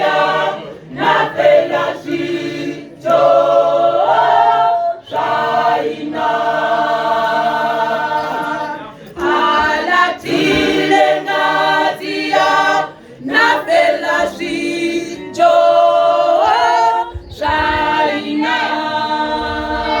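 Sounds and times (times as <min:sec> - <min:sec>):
choir singing a cappella: 0:00.0 - 0:20.0.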